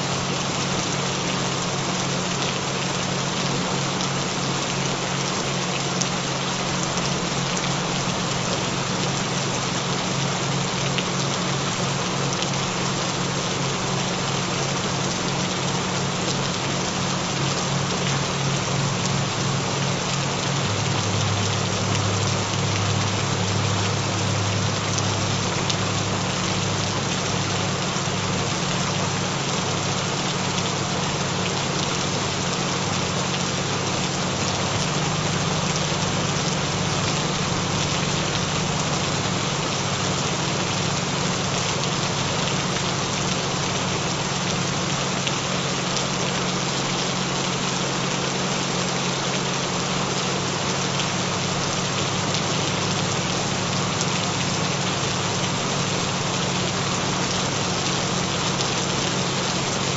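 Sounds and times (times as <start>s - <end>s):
gentle rain: 0.0s - 59.9s.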